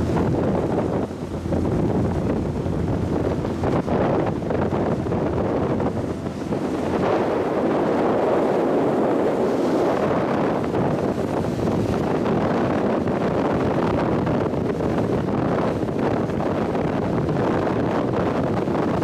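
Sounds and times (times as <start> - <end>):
ship engines rushing: 0.0 - 18.5
water rushing along hull: 0.0 - 19.0
wind buffeting microphone: 0.0 - 19.0.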